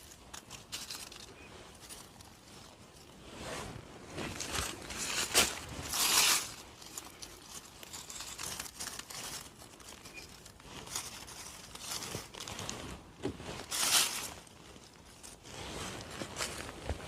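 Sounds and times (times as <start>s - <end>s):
rustling forest floor litter: 0.0s - 17.0s.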